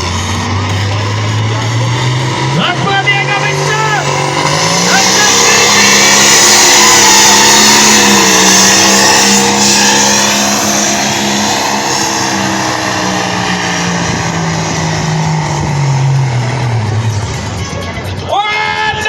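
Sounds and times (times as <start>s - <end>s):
engine at high revs under load: 0.0s - 17.7s.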